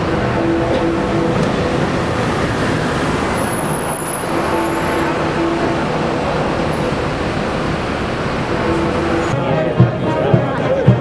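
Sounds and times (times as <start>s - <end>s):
bus engine and tyres: 0.0s - 9.4s
surrounding traffic: 0.0s - 11.0s.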